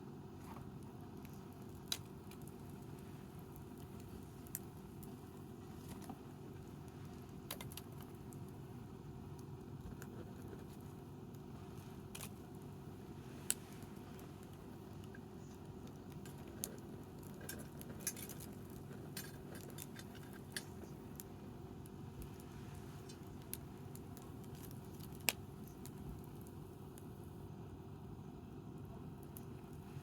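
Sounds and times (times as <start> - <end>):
low background noise: 0.0 - 30.0
wood fire crackling: 0.2 - 30.0.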